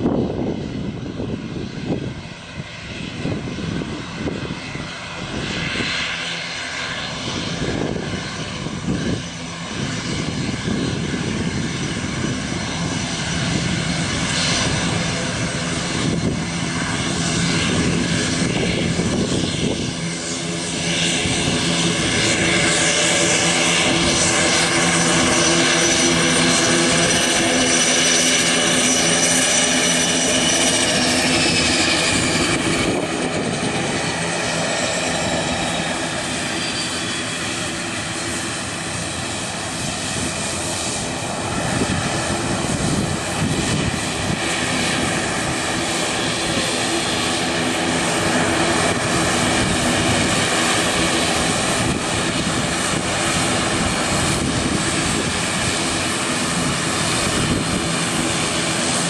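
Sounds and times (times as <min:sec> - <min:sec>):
turboprop aircraft taxiing: 0:00.0 - 0:59.0.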